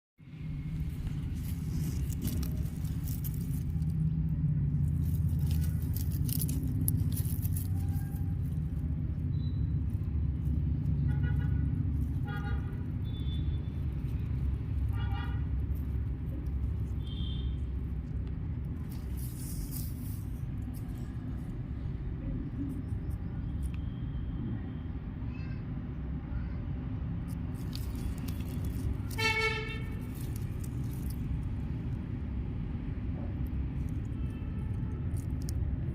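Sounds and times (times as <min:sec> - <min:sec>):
farm machinery engine rumble: 0:00.3 - 0:24.0, 0:27.2 - 0:35.9.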